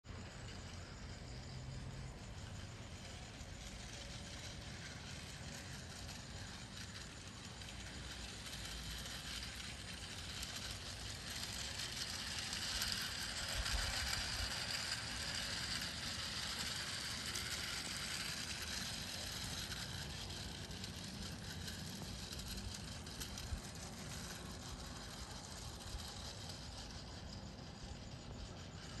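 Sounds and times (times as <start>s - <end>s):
toy train motor whirring: 0.1s - 29.0s.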